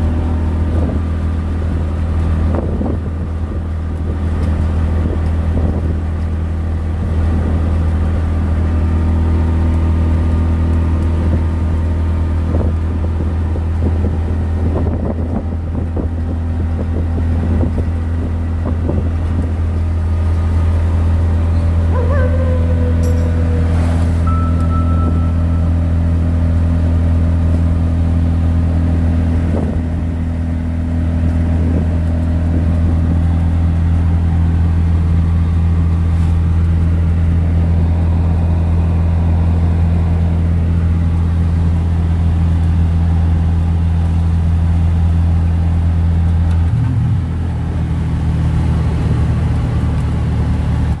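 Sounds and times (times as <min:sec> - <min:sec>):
vehicle engine hum from cabin: 0:00.0 - 0:51.0.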